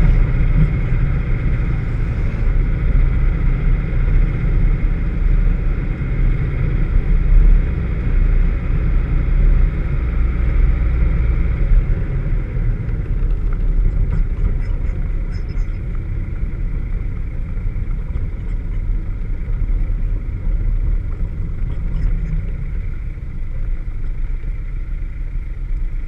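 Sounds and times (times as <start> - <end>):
car engine running with misfire: 0.0 - 26.0.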